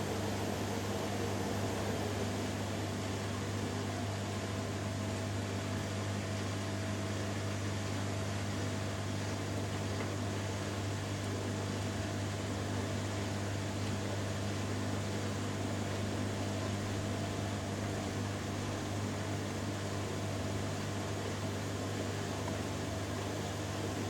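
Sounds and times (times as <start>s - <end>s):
washing machines spinning: 0.0s - 24.0s.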